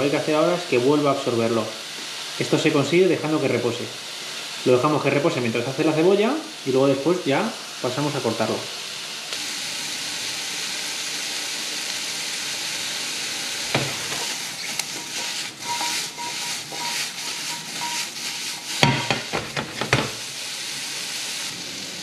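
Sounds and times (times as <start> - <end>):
onions sizzling in a pan: 0.0 - 22.0.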